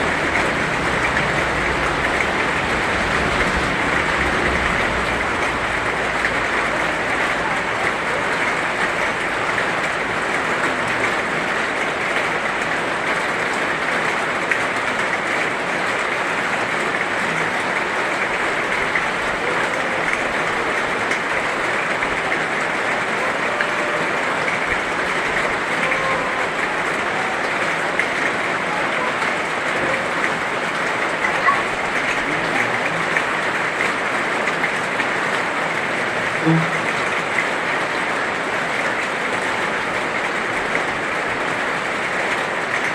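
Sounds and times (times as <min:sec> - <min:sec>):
heavy rain hiss: 0:00.0 - 0:42.9.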